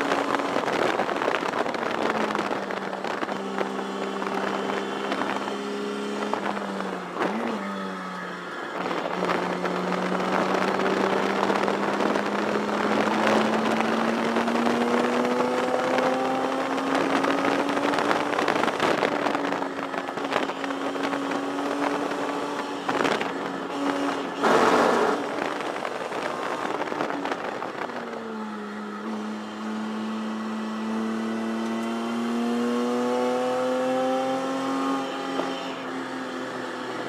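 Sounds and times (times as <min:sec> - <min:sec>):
race car engine under load: 0:00.0 - 0:37.0.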